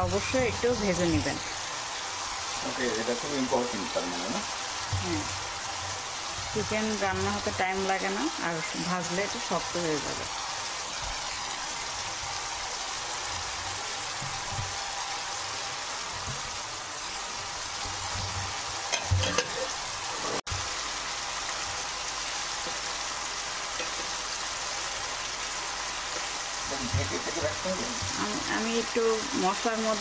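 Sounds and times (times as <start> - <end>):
gravy sizzling in a frying pan: 0.0 - 30.0.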